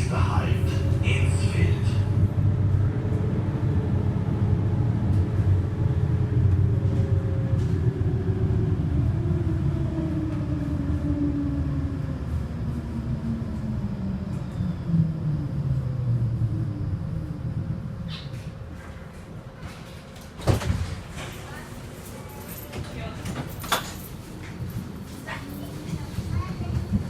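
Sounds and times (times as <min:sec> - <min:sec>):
bus drivetrain whine: 0:00.0 - 0:27.0
bus engine rumble: 0:00.0 - 0:27.0.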